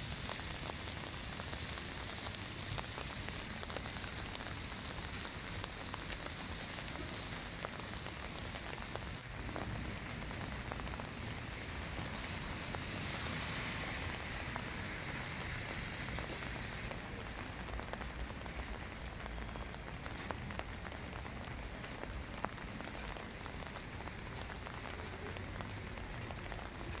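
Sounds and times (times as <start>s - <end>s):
light rain hissing: 0.0s - 27.0s
raindrops ticking: 0.0s - 27.0s.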